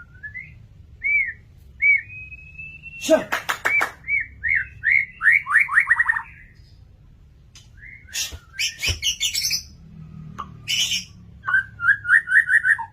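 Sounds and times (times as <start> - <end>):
bird singing whistled notes: 0.0 - 6.7, 7.7 - 9.7, 10.6 - 12.9.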